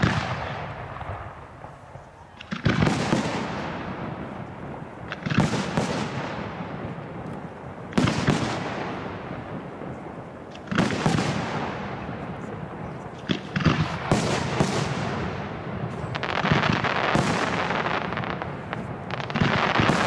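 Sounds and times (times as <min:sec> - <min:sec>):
long rolling echo: 0:00.0 - 0:20.0.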